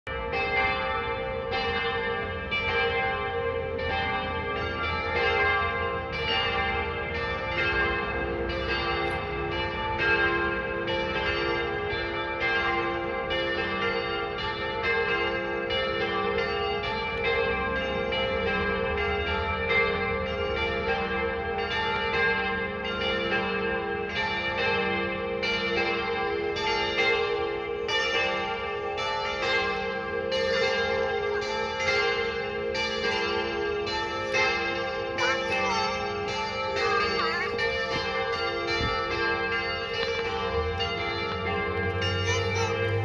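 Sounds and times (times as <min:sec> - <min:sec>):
church bells ringing: 0:00.1 - 0:43.0.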